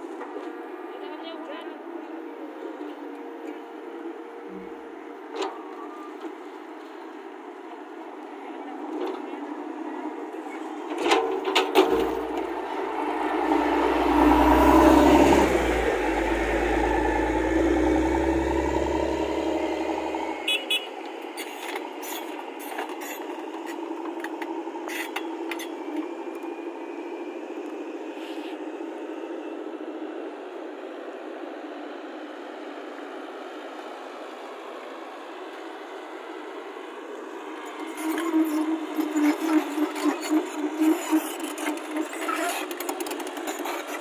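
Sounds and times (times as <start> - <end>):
excavator engine running: 0.0 - 44.0
grader diesel engine rumble: 0.0 - 44.0.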